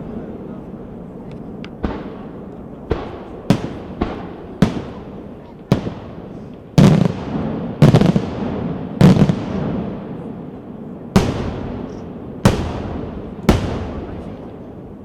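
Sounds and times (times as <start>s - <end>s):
fireworks bangs with echoing rumble: 0.0s - 15.0s.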